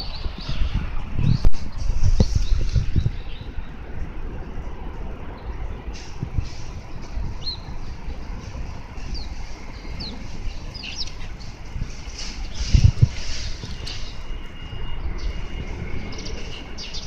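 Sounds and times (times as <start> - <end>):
small birds chirping: 0.0 - 3.9, 5.3 - 17.0
low outdoor rumble: 0.0 - 17.0.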